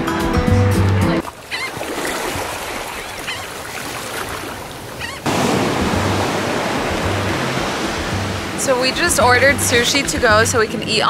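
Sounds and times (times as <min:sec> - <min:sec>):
ocean surf washing on beach: 0:01.8 - 0:10.9.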